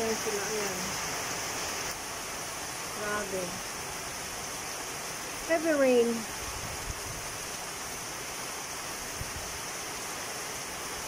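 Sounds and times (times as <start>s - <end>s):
heavy rain on foliage: 0.0s - 11.0s.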